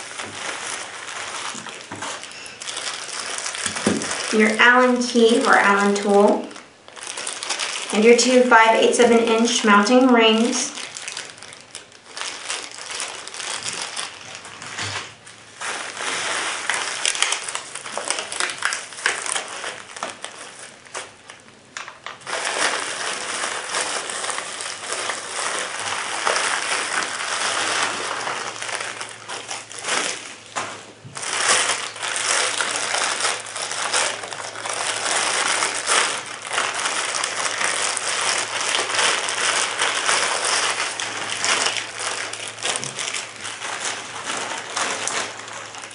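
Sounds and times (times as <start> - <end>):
bubble wrap and plastic crinkling: 0.0 - 45.9.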